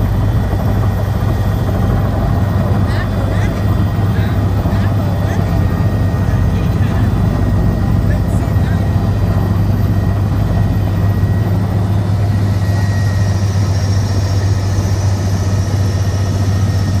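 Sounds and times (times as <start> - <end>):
helicopter rotor drone: 0.0 - 17.0.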